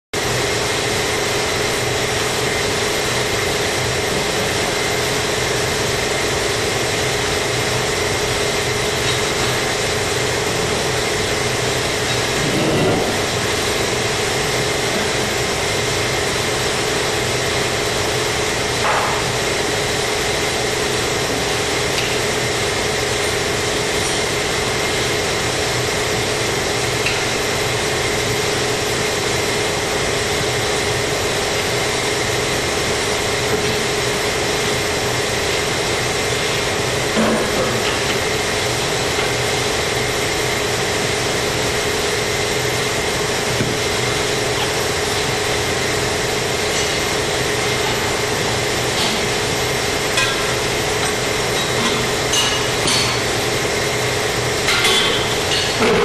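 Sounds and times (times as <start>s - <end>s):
machine drone: 0.2s - 56.0s.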